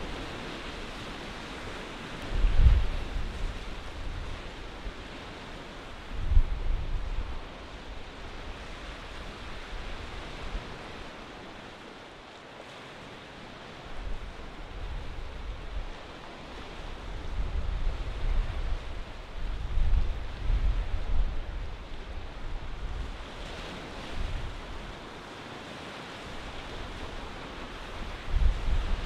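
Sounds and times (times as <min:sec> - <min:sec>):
wind gusts buffeting microphone: 0:00.0 - 0:11.7, 0:13.8 - 0:29.0.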